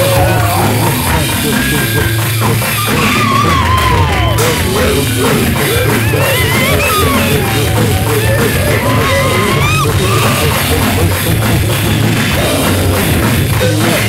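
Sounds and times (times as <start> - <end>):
loud rock music with drums: 0.0 - 14.0.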